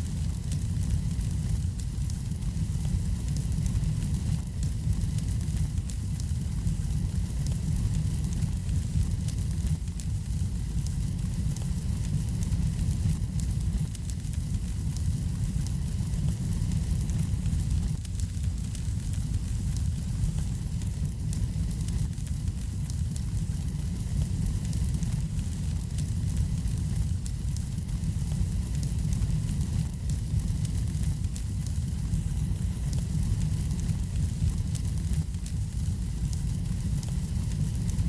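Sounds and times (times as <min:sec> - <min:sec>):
low fire rumble: 0:00.0 - 0:38.0
wood fire crackling and popping: 0:00.0 - 0:38.0.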